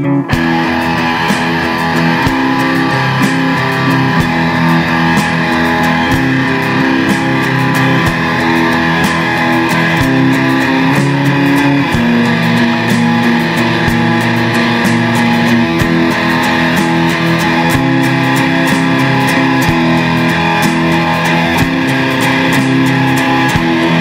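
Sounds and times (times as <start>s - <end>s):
guitar-led band music: 0.0s - 24.0s
drum hits: 0.3s - 24.0s.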